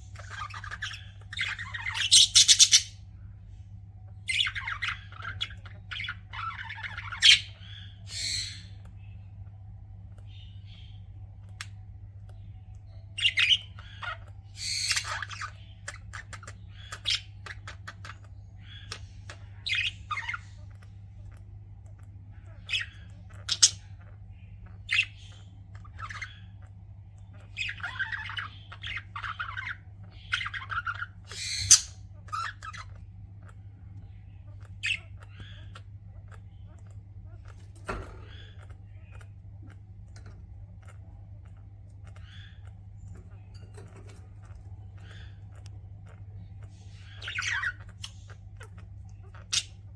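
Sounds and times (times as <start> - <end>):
budgerigars chirping and squawking: 0.0 - 49.9
steady low hum: 0.0 - 49.9.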